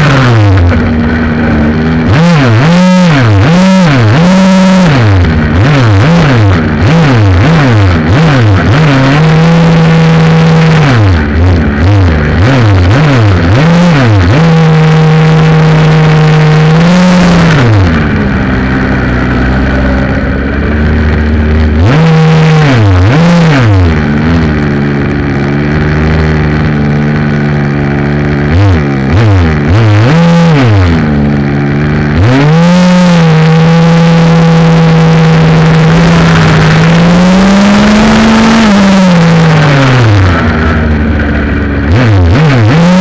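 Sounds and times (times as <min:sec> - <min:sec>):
two-stroke engine revving: 0:00.0 - 0:43.0.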